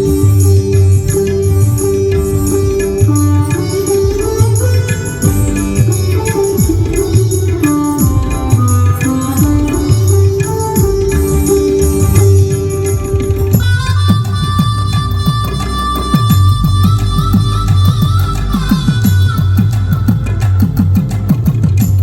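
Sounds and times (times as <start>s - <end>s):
sitar melody: 0.0s - 22.0s
tabla drum strokes: 0.0s - 22.0s.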